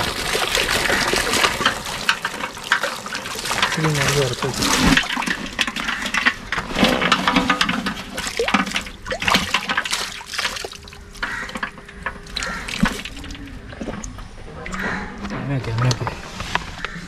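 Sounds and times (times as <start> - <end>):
shallow water sloshing: 0.0 - 17.0.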